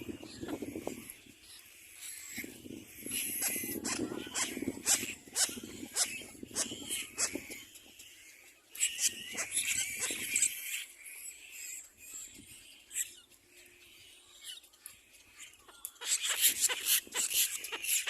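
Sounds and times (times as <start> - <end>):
chicks rasping begging calls: 0.0 - 18.0.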